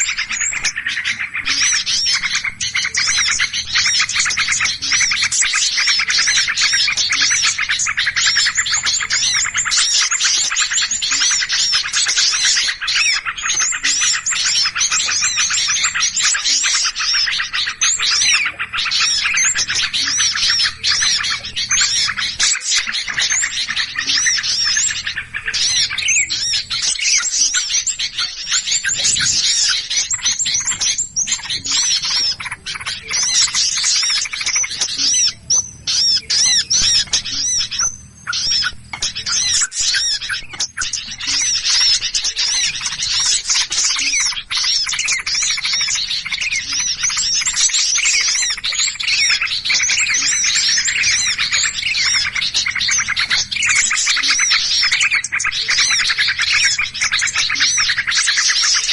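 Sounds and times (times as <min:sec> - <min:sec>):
small songbirds chattering and chirping: 0:00.0 - 0:58.9.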